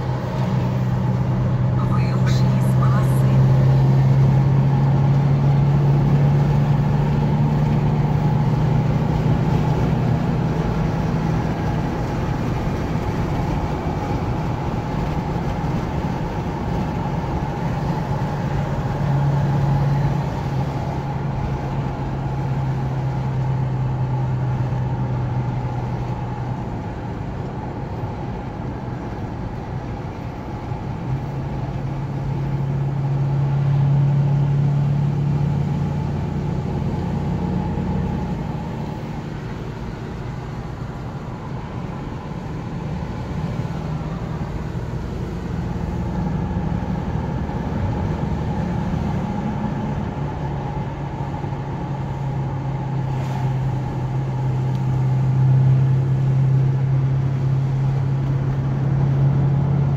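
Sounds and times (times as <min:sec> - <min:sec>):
car engine droning: 0:00.0 - 0:59.9
tyre and road noise: 0:00.0 - 0:59.9.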